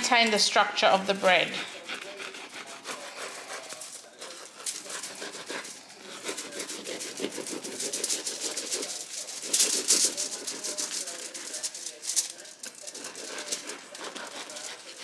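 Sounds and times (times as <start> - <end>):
knife sawing through bread crust: 1.2 - 15.0.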